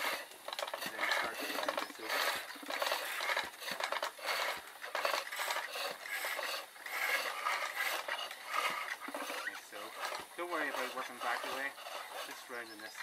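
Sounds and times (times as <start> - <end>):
tools scraping spinning wood: 0.0 - 13.0.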